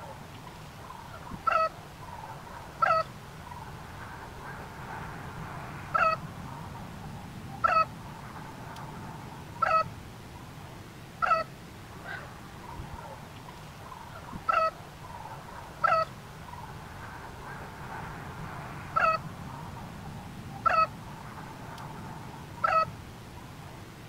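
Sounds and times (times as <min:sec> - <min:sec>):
low background hum: 0:00.2 - 0:24.0.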